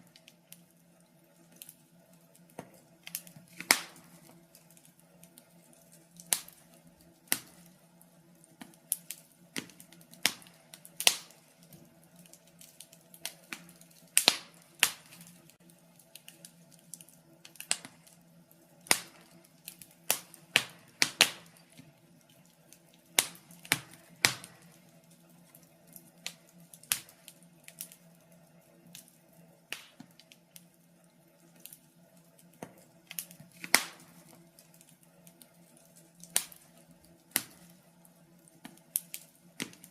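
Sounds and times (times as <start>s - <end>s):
wood fire crackling: 0.0s - 39.9s
sharp pops and snaps: 2.4s - 18.2s, 18.8s - 28.1s, 29.7s - 30.7s, 32.4s - 39.9s.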